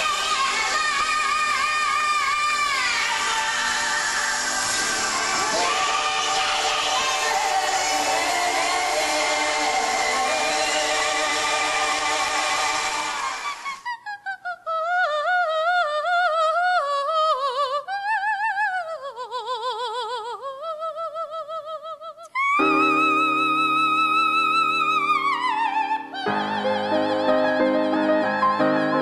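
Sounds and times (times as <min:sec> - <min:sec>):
woman singing soprano with vibrato: 0:00.0 - 0:29.0.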